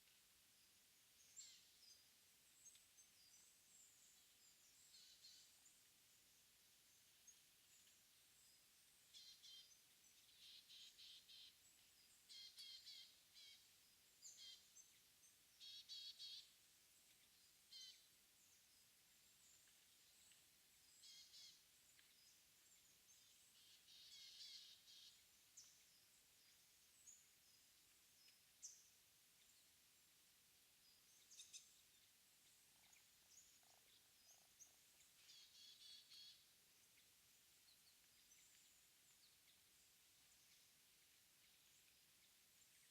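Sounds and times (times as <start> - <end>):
songbird chirps and trills: 0.0 - 42.9.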